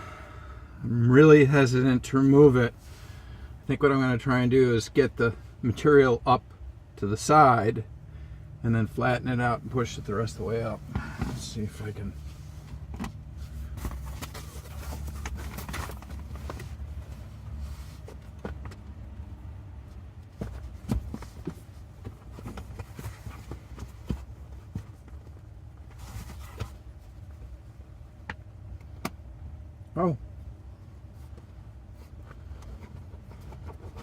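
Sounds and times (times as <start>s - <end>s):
fan humming: 6.5s - 34.0s.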